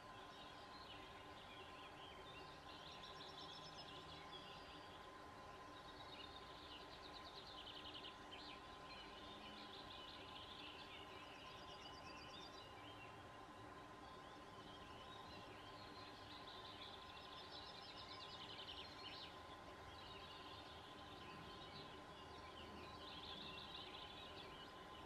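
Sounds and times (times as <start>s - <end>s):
faint steady hum: 0.0s - 25.0s
small birds singing: 0.0s - 25.0s.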